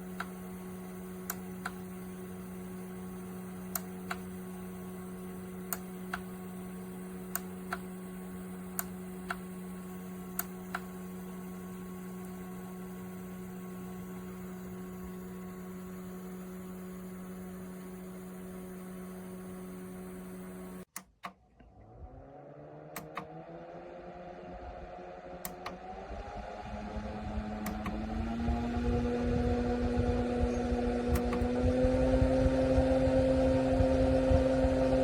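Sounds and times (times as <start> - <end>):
fan motor humming: 0.0 - 35.0.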